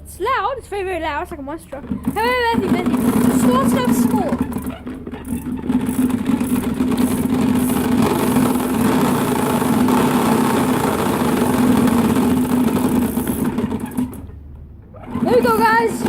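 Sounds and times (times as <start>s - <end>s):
bottle flapping against spokes: 1.6s - 16.0s.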